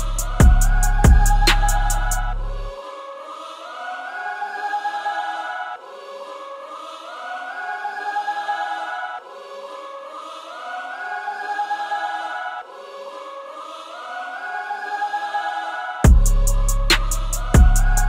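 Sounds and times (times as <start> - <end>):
choir-like sung phrase: 0.0 - 18.0.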